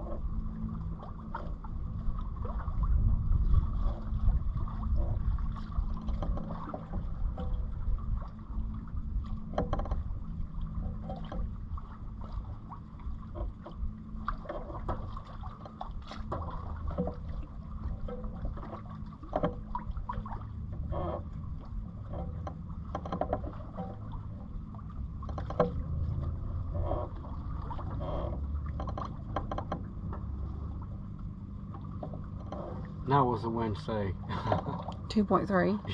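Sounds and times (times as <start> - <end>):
steady low rumble: 0.0 - 35.9
water splashing against hull: 0.0 - 35.9.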